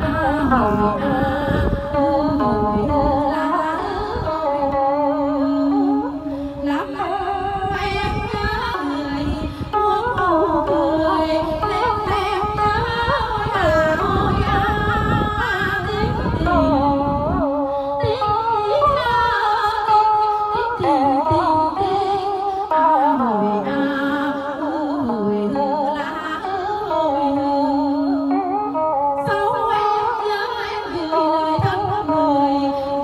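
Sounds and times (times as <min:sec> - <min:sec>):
woman singing folk song: 0:00.0 - 0:33.0.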